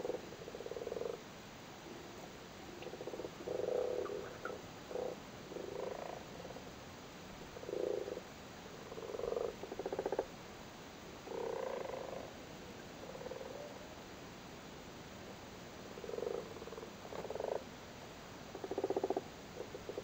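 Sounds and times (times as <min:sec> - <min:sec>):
frogs croaking: 0:00.0 - 0:06.8, 0:07.4 - 0:10.4, 0:11.2 - 0:14.0, 0:15.8 - 0:17.8, 0:18.4 - 0:20.0.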